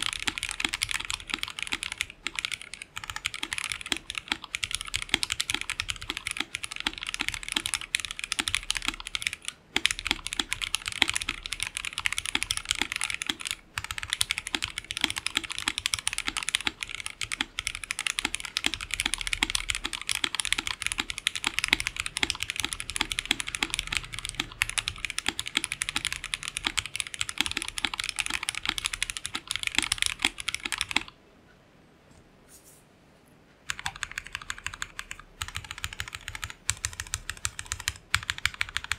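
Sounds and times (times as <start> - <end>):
clacky mechanical keyboard typing: 0.0 - 31.2, 33.7 - 38.9.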